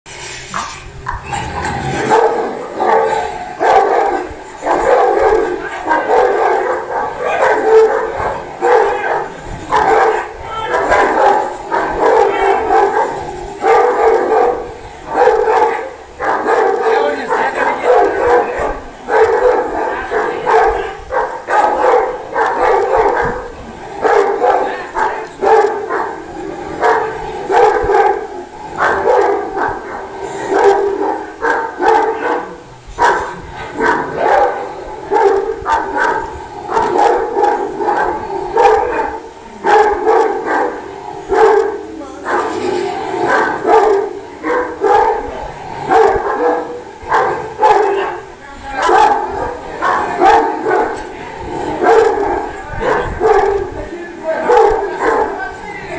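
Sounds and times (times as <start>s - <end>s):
human voices: 0.3s - 55.9s
large dogs barking: 1.1s - 55.9s.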